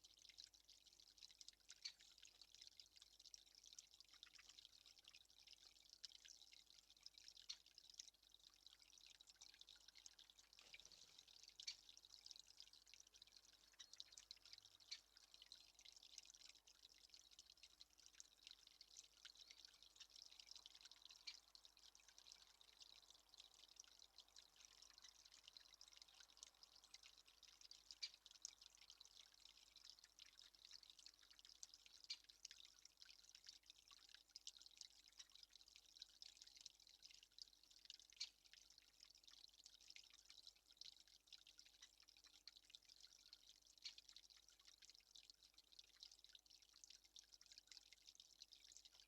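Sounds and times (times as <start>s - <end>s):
faint crackle of tiny ticks: 0.0s - 49.0s.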